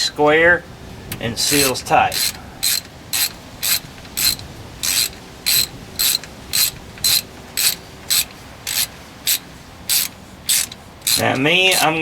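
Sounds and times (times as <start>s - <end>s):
hand ratchet clicking: 1.4s - 12.0s.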